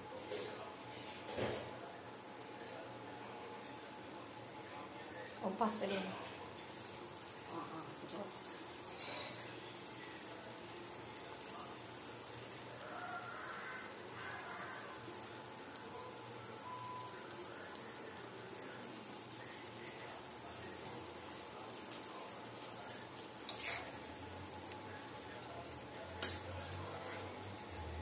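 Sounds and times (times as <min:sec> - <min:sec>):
pot simmering and bubbling: 0:00.0 - 0:28.0.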